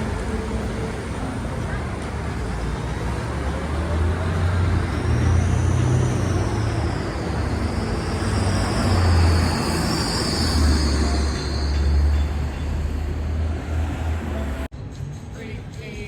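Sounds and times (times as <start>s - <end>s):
heavy vehicle engine rumble: 0.0s - 14.7s
road noise: 0.0s - 16.0s.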